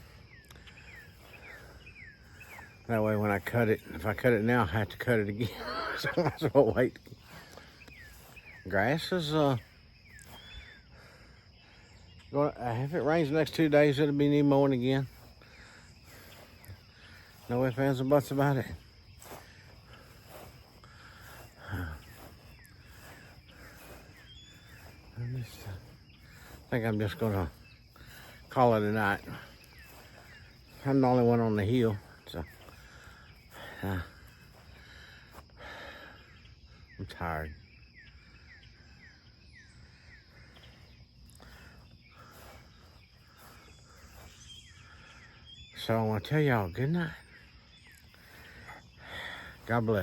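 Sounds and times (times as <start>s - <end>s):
crickets and insects chirping: 0.0s - 50.0s.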